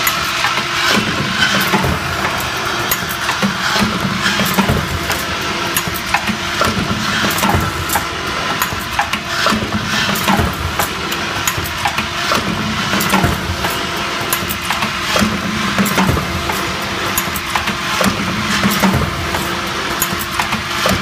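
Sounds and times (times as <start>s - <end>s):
machine motor hum: 0.0s - 21.0s.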